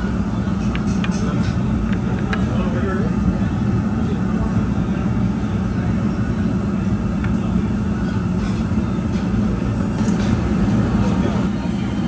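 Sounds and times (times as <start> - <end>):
restaurant room rumble: 0.0 - 12.0.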